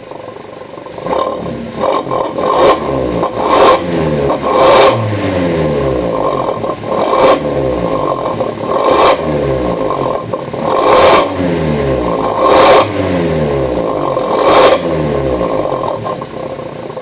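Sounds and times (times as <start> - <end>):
growly engine exhaust revving: 0.8 - 17.0.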